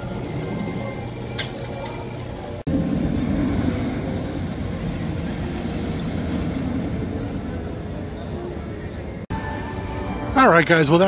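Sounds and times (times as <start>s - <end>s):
roller coaster train rumbling: 2.0s - 10.9s.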